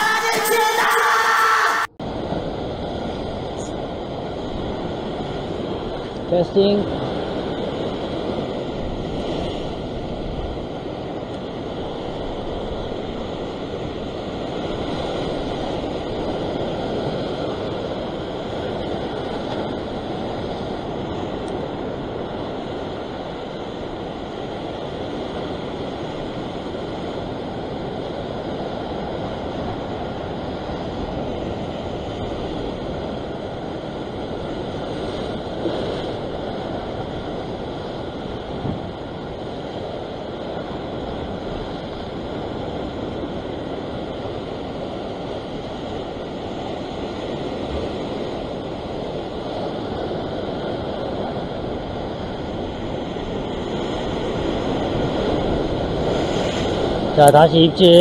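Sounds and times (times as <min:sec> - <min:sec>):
wind on microphone: 0:01.8 - 0:58.0
surf washing against rocks: 0:02.0 - 0:58.0.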